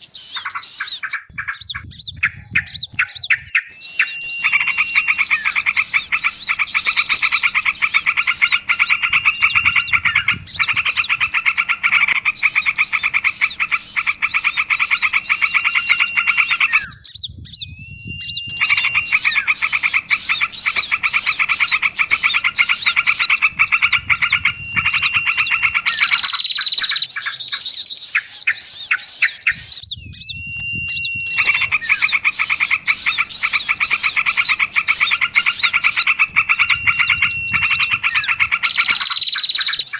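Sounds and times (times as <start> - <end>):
songbirds chirping in chorus: 0.0 - 39.9
steady whistle: 1.0 - 39.9.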